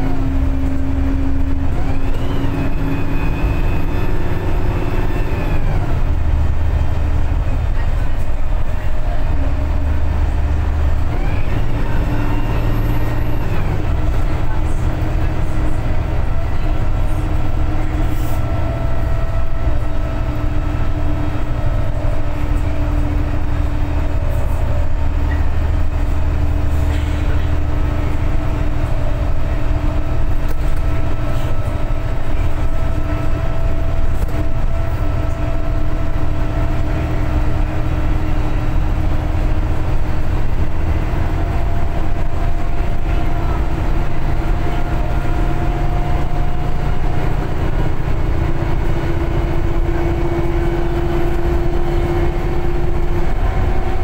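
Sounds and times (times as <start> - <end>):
bus engine rumble with whine: 0.0 - 54.0.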